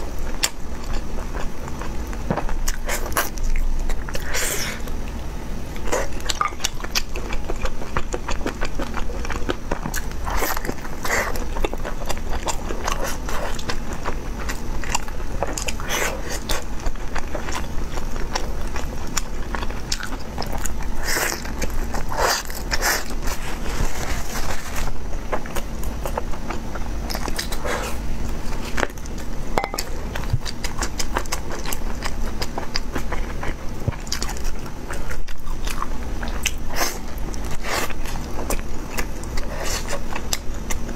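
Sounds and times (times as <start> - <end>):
chewing and biting food: 0.0 - 40.9
steady low hum: 0.0 - 40.9.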